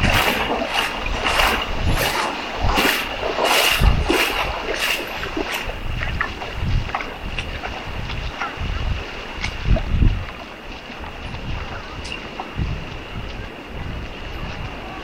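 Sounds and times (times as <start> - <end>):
rhythmic water splashing: 0.0 - 12.6
wind on microphone: 0.0 - 15.0.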